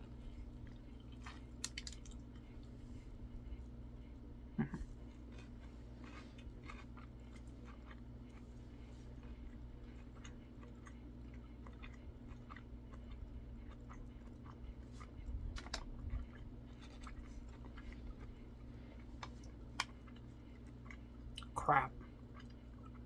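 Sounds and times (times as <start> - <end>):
chewing crunchy sandwich: 0.0 - 23.0
steady low hum: 0.0 - 23.0.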